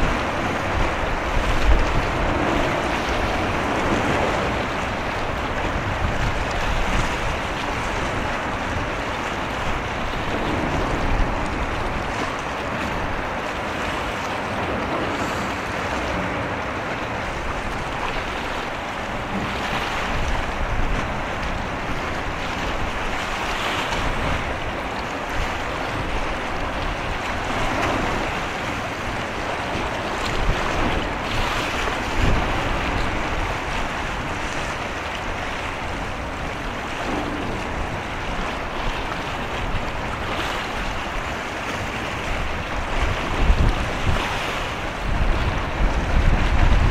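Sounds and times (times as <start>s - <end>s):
sea water washing: 0.0s - 46.9s
wind buffeting microphone: 0.0s - 46.9s.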